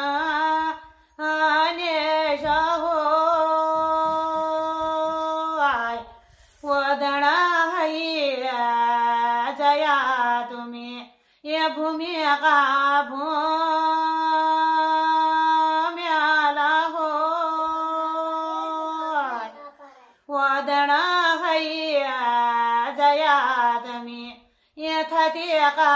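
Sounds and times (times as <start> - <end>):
woman singing unaccompanied: 0.0 - 19.6, 20.3 - 25.9.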